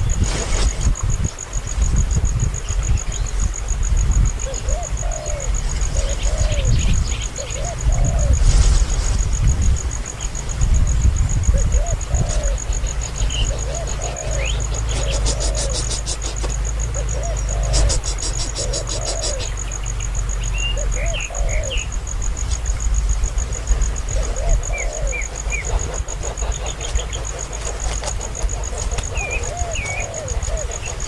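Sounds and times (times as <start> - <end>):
low arching calls: 2.2 - 31.0
insect trilling: 3.8 - 31.0.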